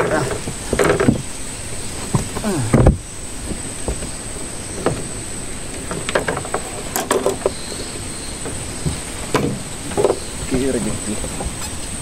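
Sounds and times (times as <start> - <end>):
light knocks and clicks on boat: 0.0 - 12.0
steady hiss: 0.0 - 12.0.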